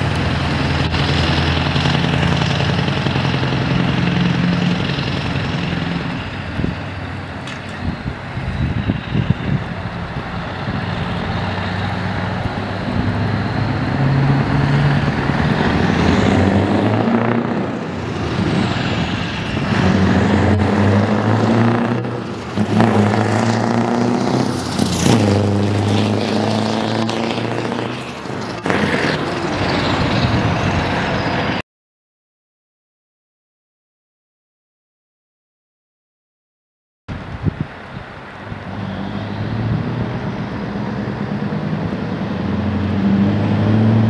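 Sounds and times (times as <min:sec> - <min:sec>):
truck diesel engine accelerating: 0:00.0 - 0:31.6, 0:37.7 - 0:44.0.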